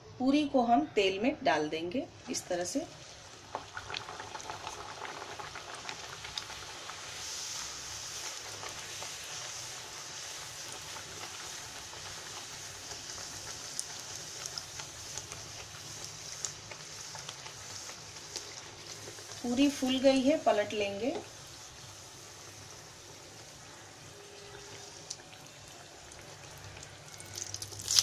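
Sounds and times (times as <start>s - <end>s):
dough deep-frying in hot oil: 0.0s - 28.0s.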